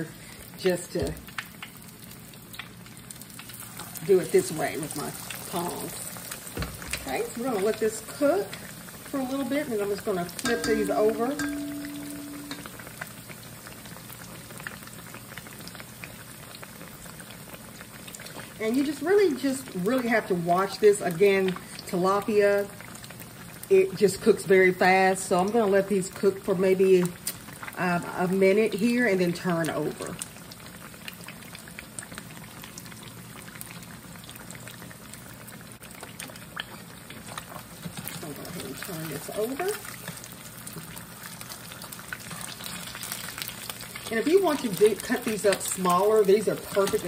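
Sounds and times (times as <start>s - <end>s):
fish frying in oil: 0.0s - 47.0s
oil popping and crackling: 0.0s - 47.0s.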